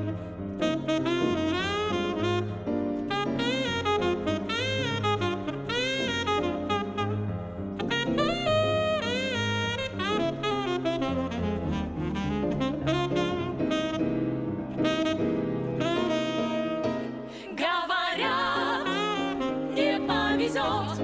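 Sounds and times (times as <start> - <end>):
bass: 0.0 - 17.3
tenor saxophone solo: 0.0 - 17.3, 18.6 - 21.0
piano: 0.0 - 21.0.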